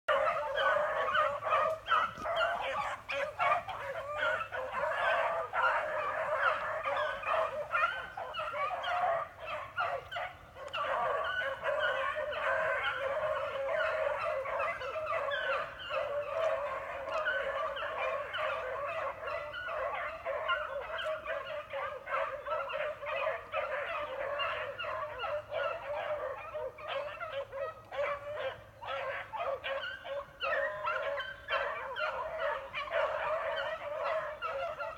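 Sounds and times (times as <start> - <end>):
pack of hounds baying: 0.1 - 34.9.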